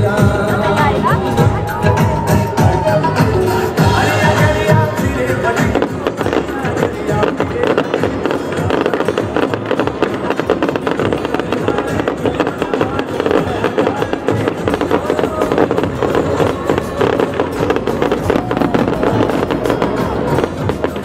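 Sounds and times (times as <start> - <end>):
fireworks crackling and banging: 0.0 - 21.0
music: 0.0 - 21.0.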